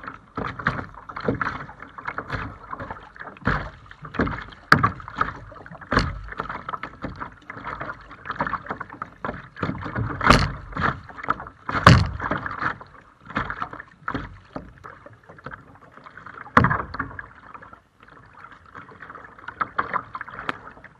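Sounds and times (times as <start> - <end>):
paddle strokes in water: 0.0 - 20.9
water slapping against paddleboard: 0.0 - 20.9.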